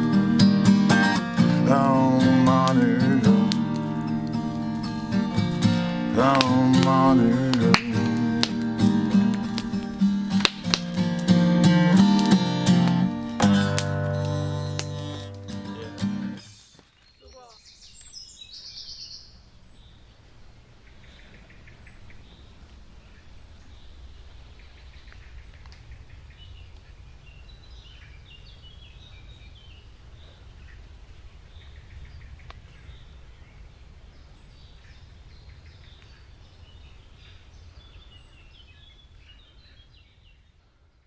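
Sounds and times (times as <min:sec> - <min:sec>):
wild birds singing: 0:00.0 - 0:41.0.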